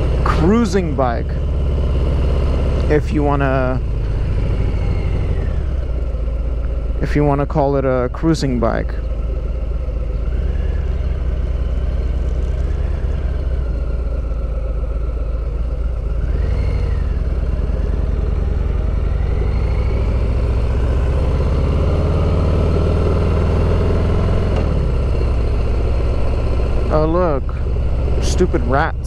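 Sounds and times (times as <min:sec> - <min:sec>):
motorcycle engine rumble: 0:00.0 - 0:29.0.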